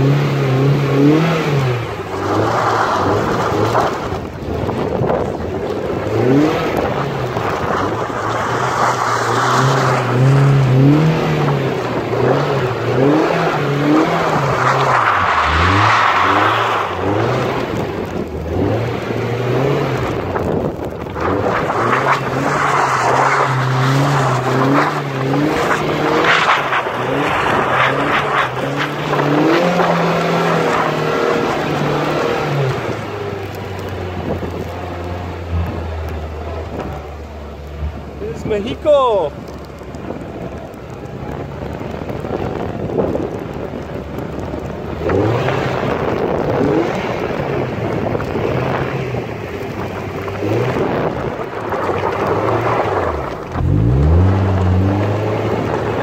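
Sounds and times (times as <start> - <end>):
sports car engine revving: 0.0 - 40.3, 41.0 - 56.0.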